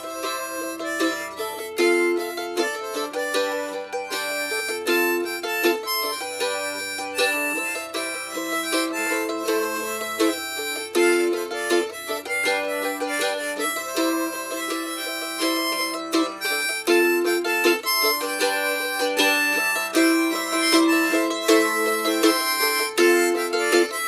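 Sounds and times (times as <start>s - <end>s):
melody of held notes: 0.0s - 24.0s
plucked string accompaniment: 0.0s - 24.0s.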